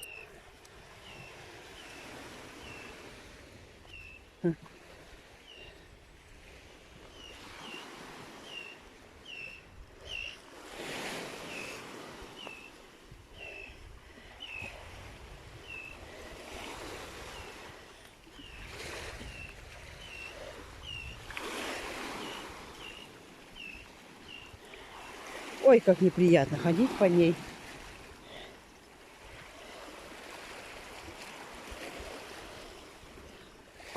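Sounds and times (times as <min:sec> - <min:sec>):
waves washing on stony shore: 0:00.0 - 0:33.9.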